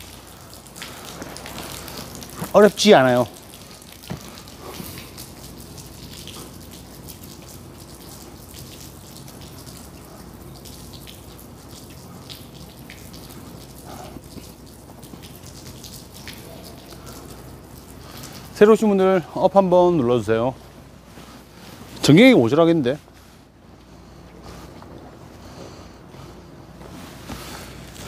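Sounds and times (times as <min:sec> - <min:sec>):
steady low hum: 0:00.0 - 0:28.0
water dripping and splashing: 0:00.0 - 0:28.0.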